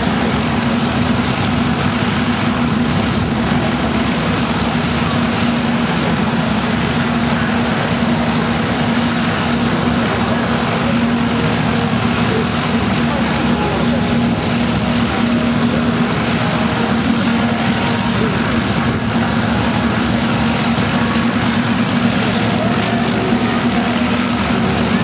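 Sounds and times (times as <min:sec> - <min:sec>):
propeller planes taxiing drone: 0:00.0 - 0:25.0.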